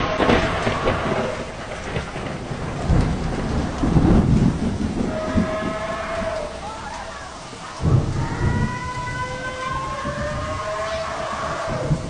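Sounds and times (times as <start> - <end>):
heavy rain pouring: 0.0 - 12.0
thunder rumble: 0.0 - 12.0.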